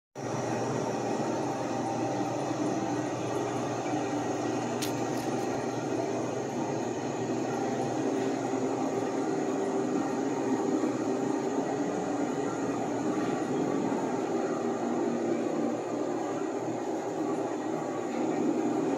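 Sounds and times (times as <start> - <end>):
constant hum: 0.2 - 18.9.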